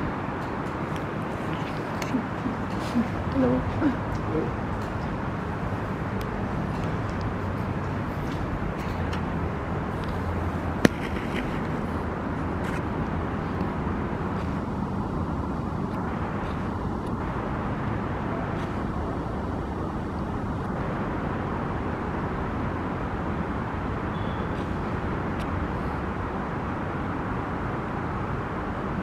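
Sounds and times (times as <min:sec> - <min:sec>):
city traffic rumble: 0:00.0 - 0:29.0.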